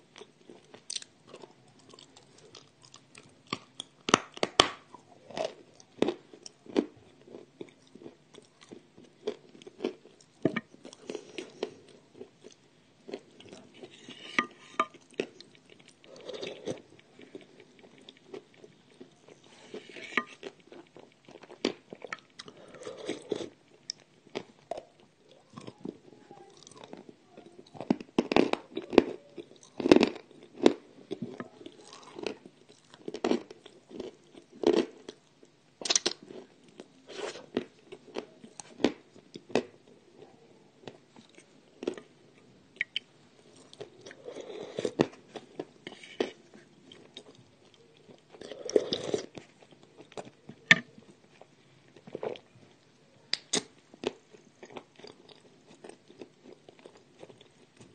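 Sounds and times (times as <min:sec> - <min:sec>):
crumbly chewing: 0:00.0 - 0:57.9.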